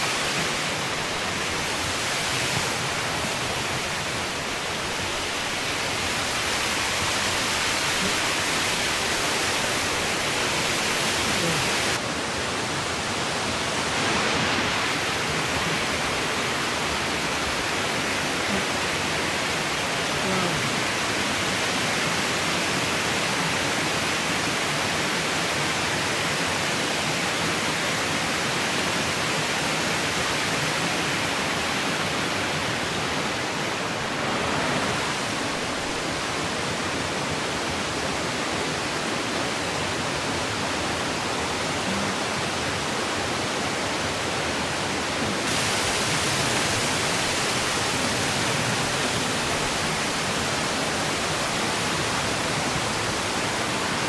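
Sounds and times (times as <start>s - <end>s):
rushing mountain stream: 0.0s - 54.0s.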